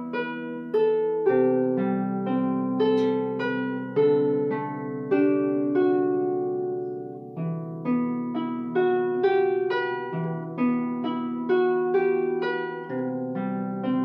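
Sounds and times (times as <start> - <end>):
harp melody plucked by hand: 0.0 - 14.0.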